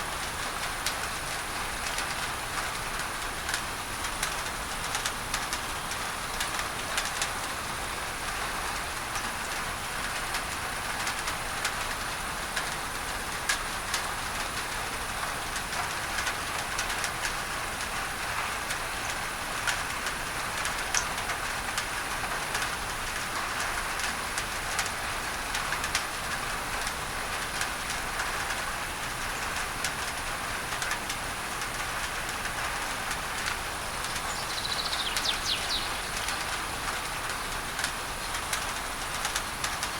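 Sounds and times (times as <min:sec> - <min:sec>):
even masking noise hiss: 0:00.0 - 0:39.9
rain on a tin roof: 0:00.0 - 0:39.9.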